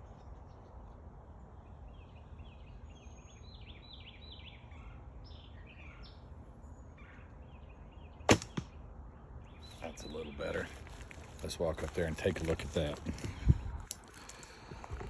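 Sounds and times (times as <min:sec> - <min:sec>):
faint songbird chirping: 0:00.0 - 0:15.0
outdoor background hiss: 0:00.0 - 0:15.0.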